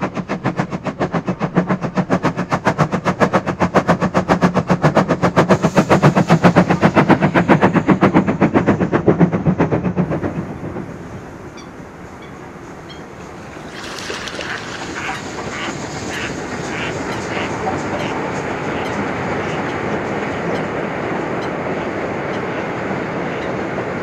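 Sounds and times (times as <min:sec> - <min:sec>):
steam locomotive exhaust beats: 0:00.0 - 0:24.0
train rumble: 0:00.0 - 0:24.0.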